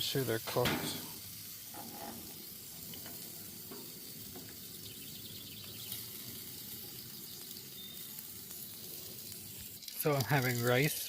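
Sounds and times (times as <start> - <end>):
chicken sizzling in frying: 0.0 - 11.0.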